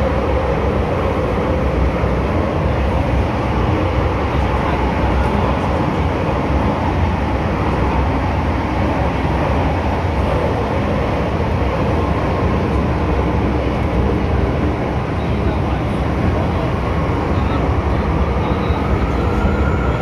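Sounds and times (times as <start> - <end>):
train rumbling in tunnel: 0.0 - 20.0.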